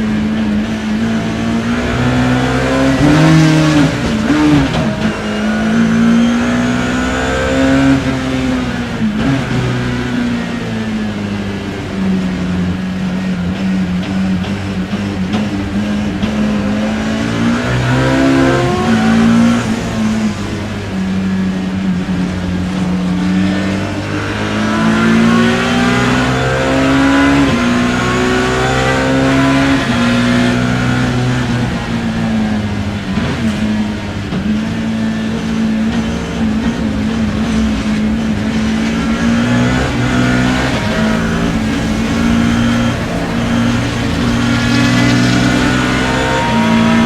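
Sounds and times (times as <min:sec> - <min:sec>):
racing car engine accelerating: 0:00.0 - 0:47.0.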